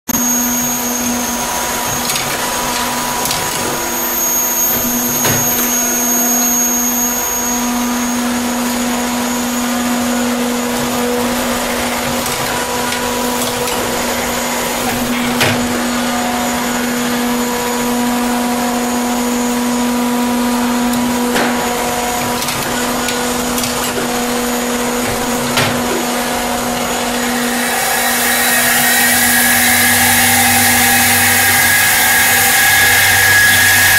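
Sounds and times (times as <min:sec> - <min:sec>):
lathe motor hum: 0:00.3 - 0:33.9.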